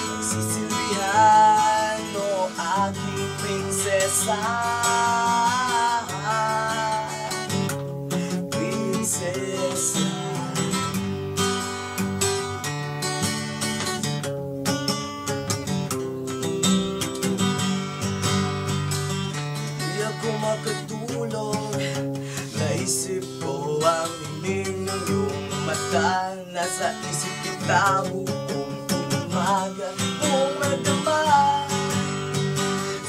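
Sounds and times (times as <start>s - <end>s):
man singing: 0.0s - 11.7s, 18.2s - 33.0s
acoustic guitar strumming: 0.0s - 33.0s.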